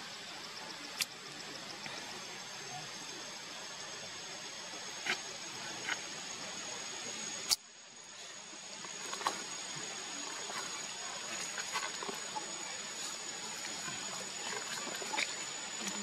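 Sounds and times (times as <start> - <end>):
high-pitched steady whine: 0.0 - 16.0
steady hiss: 0.0 - 16.0.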